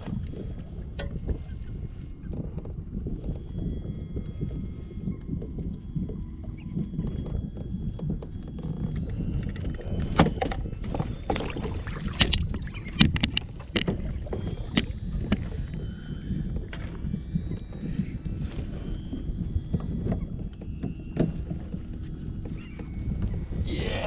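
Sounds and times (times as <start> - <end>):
water rumble: 0.0 - 24.0
wind: 0.0 - 24.0.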